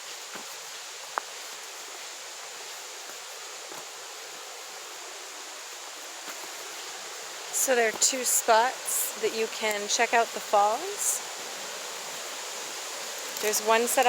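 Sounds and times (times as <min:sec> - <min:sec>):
brook and waterfall rushing: 0:00.0 - 0:14.0.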